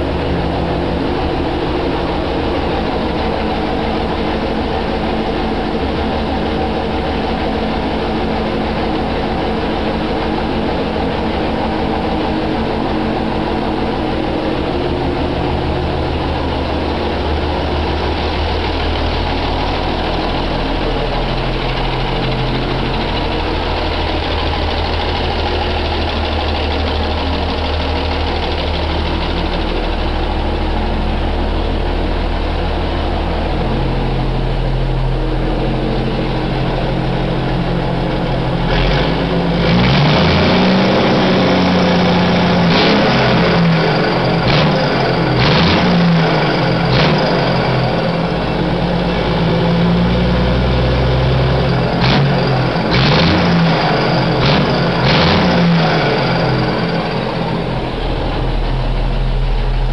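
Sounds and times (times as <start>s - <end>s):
diesel engine idling: 0.0s - 59.9s
engine revving: 0.0s - 59.9s.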